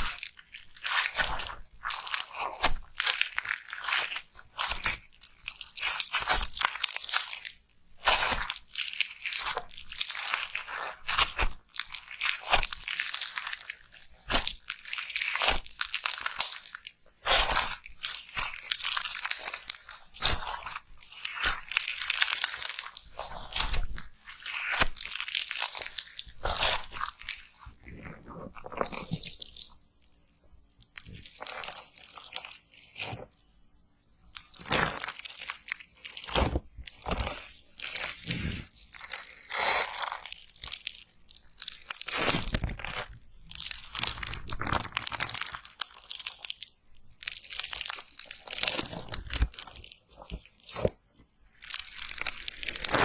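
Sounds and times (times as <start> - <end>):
slime squeezed with hands: 0.0 - 33.3, 34.2 - 53.0.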